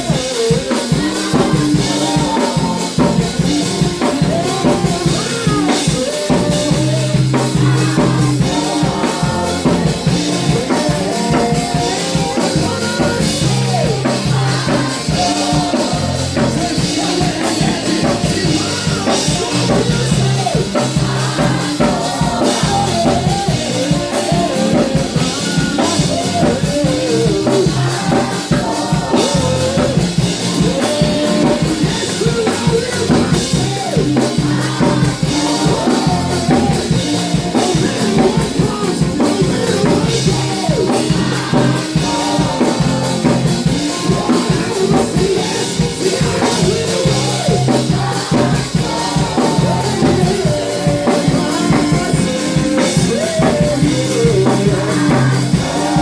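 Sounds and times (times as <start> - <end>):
band with drums and bass: 0.0 - 56.0
voices singing: 0.0 - 56.0.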